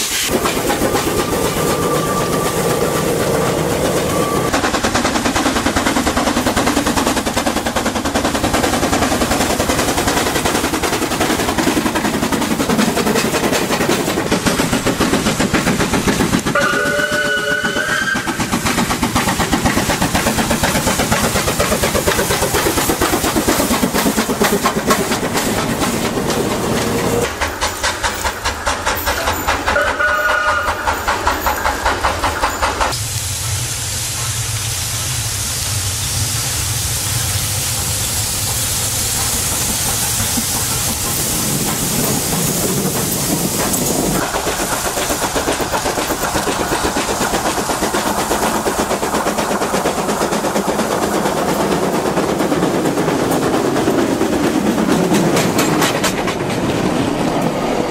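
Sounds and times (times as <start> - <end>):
train wheels clattering over rails: 0.0 - 33.0, 36.3 - 57.9
steam hissing: 0.0 - 57.9
steam locomotive exhaust chuffs: 0.0 - 57.9.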